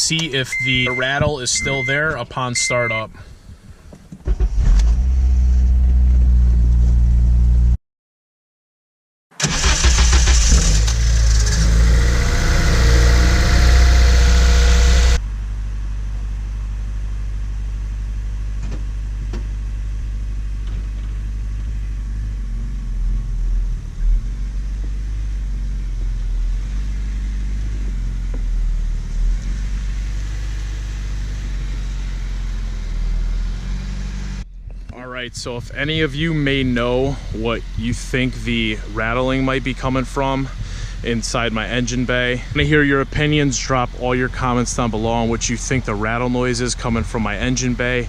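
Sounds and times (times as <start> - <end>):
car engine starting and idling: 0.0 - 7.8, 9.3 - 48.0.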